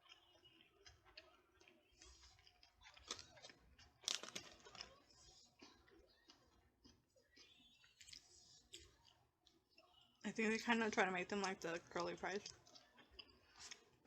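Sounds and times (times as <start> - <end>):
person chewing food: 0.0 - 10.2, 10.8 - 14.0.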